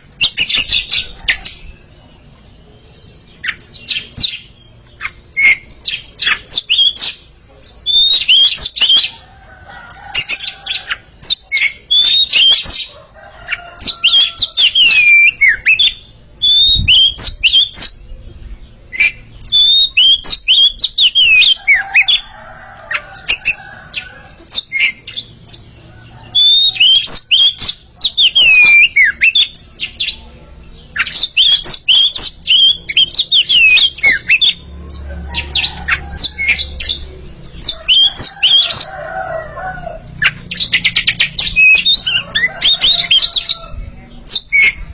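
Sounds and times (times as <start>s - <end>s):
songbirds singing whistled notes: 0.0s - 44.9s.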